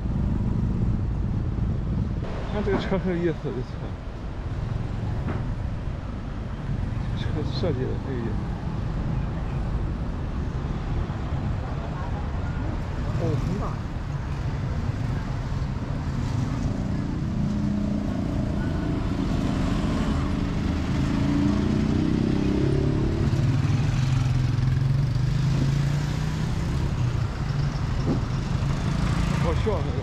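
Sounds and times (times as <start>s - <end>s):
car engines passing slowly: 0.0s - 30.0s.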